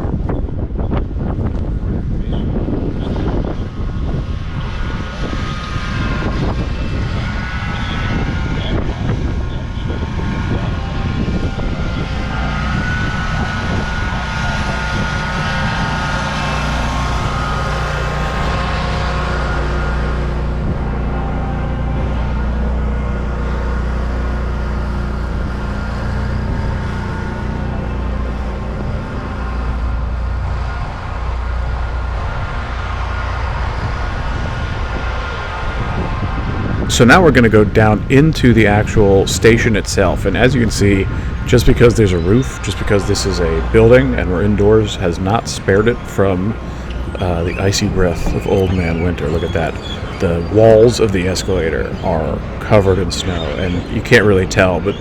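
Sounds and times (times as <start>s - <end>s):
city noise: 0.0s - 55.0s
engine low rumble: 0.0s - 55.0s
steady machine whine: 0.0s - 55.0s
wind on microphone: 0.0s - 55.0s.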